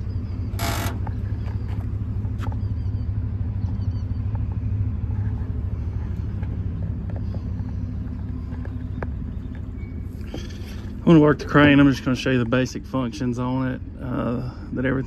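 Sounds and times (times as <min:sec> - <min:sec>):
engine idling with low rumble: 0:00.0 - 0:15.0.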